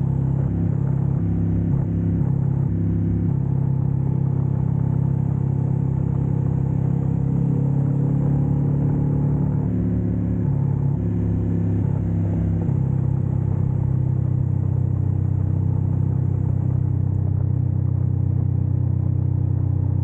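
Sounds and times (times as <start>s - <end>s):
motorcycle engines low rumble: 0.0s - 20.0s.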